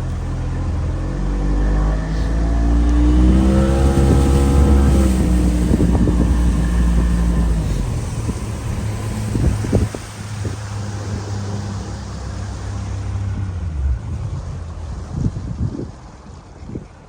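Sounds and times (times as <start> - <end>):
outboard motor speeding up: 0.0 - 17.0
rushing water: 0.0 - 17.0
rushing wind: 0.0 - 17.0.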